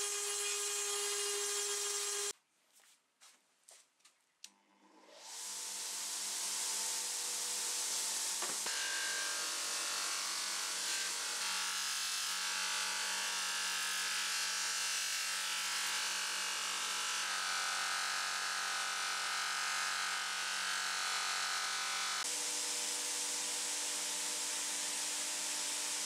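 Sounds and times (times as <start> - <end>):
bench grinder motor hum: 0.0 - 2.3, 5.0 - 26.0.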